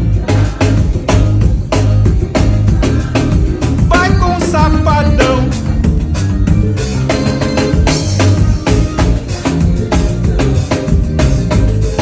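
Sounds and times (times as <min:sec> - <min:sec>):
bass line: 0:00.0 - 0:12.0
drum kit beat: 0:00.0 - 0:12.0
live band playing: 0:00.0 - 0:12.0.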